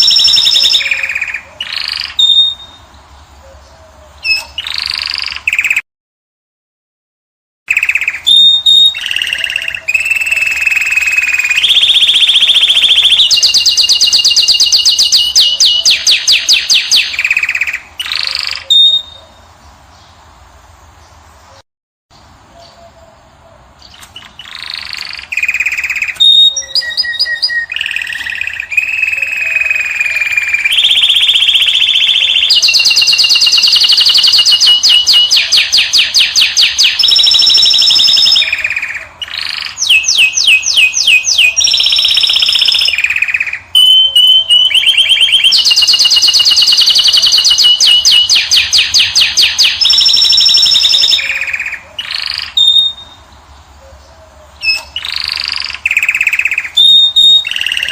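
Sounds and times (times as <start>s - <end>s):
finch singing trills: 0.0s - 5.8s, 7.7s - 20.2s, 22.2s - 57.9s.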